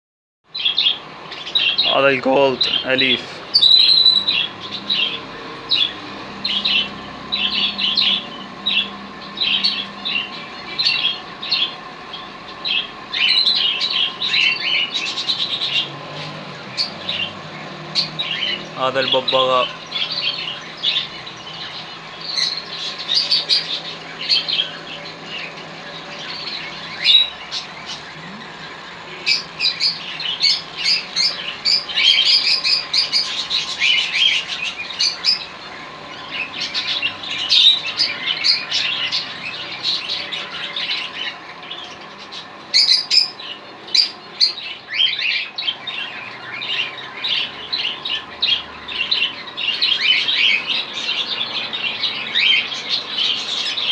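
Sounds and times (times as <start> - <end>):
birds chirping and squawking: 0.5 - 53.9.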